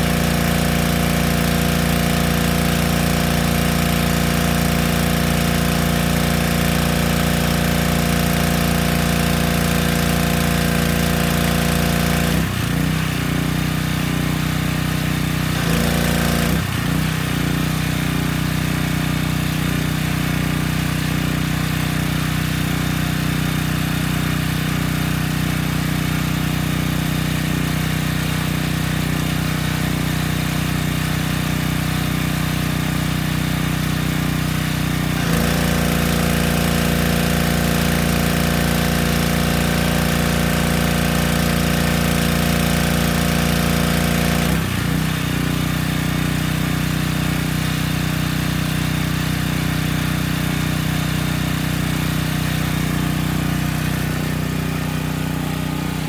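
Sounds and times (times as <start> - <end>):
pressure washer engine running: 0.0 - 56.0.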